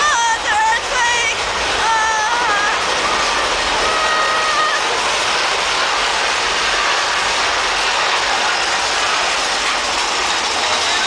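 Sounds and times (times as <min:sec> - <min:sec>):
roller coaster rushing on track: 0:00.0 - 0:11.0.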